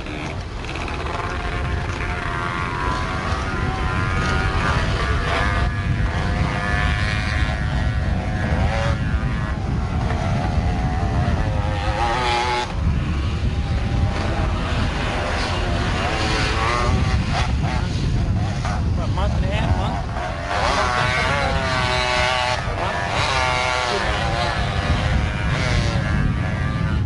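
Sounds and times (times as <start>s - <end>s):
quad engine revving: 0.0s - 27.0s.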